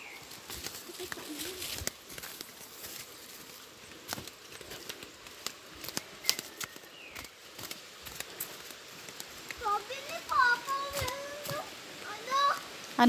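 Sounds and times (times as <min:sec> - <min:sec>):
footsteps on dry leaves and twigs: 0:00.0 - 0:12.4.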